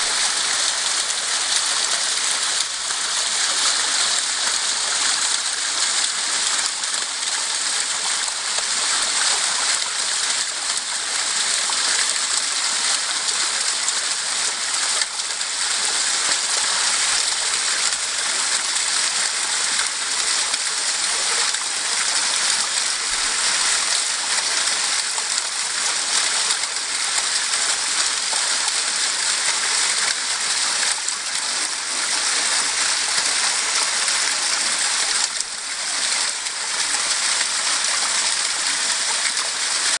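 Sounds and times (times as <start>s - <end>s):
waterfall splashing into pool: 0.0s - 40.0s.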